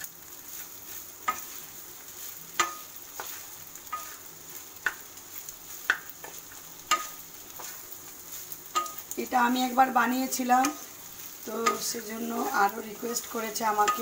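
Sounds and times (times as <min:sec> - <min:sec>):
rice sizzling in a pan: 0:00.0 - 0:14.0
spatula scraping a pan: 0:00.2 - 0:14.0.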